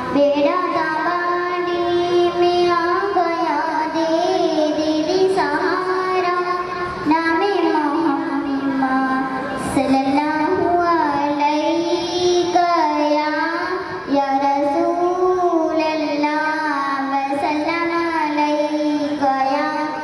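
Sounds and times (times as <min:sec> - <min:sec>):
girl singing into microphone: 0:00.0 - 0:20.0.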